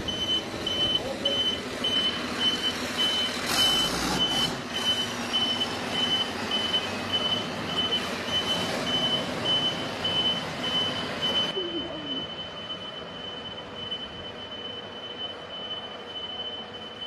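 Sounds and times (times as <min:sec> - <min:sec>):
military vehicle engine running: 0:00.0 - 0:17.0
reversing alarm beeping: 0:00.0 - 0:17.0.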